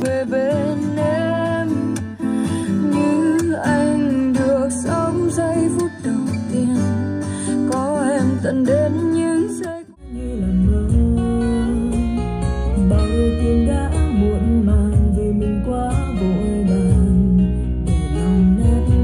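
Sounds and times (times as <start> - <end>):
acoustic guitar song with singing: 0.0 - 19.0.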